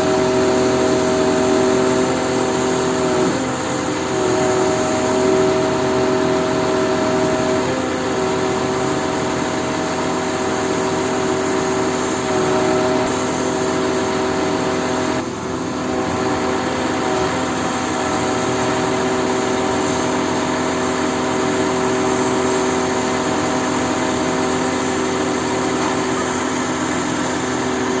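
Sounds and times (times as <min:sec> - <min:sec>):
truck engine running steadily: 0:00.0 - 0:28.0.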